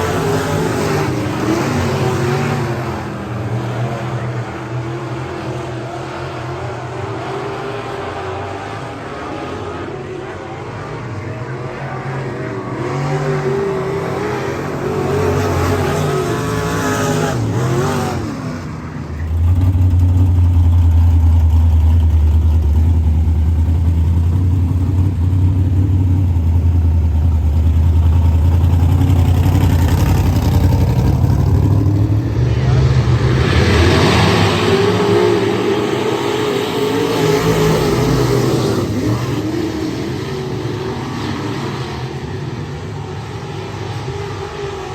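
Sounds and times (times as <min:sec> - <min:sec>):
race car engine revving: 0:00.0 - 0:44.9.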